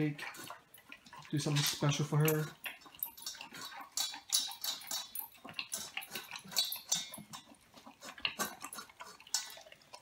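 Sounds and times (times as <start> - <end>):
dog crunching dry kibble: 0.0 - 10.0.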